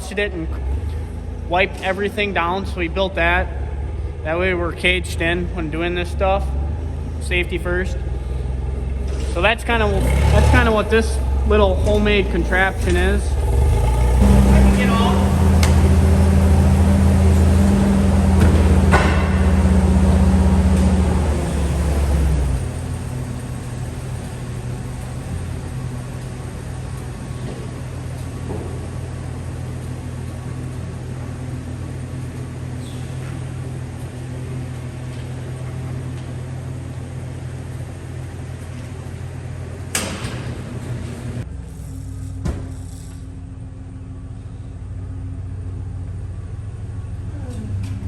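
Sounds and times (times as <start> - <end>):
motorised lift humming: 0.0 - 48.0.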